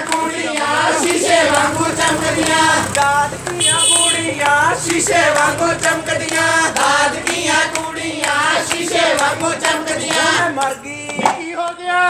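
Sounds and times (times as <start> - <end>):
hand claps: 0.0 - 11.8
women singing folk song: 0.0 - 12.0.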